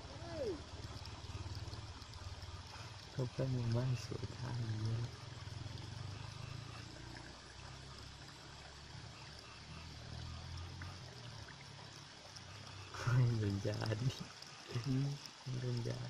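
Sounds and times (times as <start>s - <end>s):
low steady hum: 0.0s - 16.0s
water trickling: 0.0s - 16.0s.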